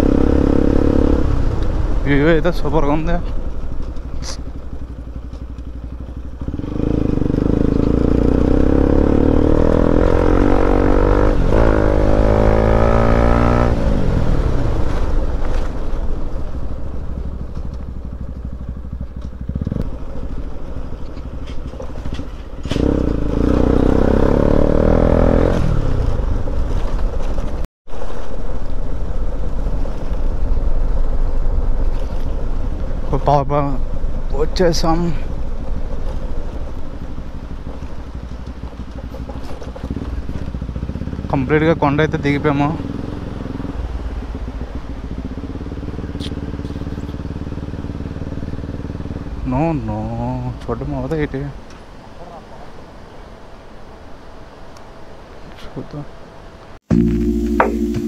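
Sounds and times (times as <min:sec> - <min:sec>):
motorcycle engine running: 0:00.0 - 0:14.6, 0:16.0 - 0:27.6, 0:28.3 - 0:50.5, 0:56.9 - 0:58.0.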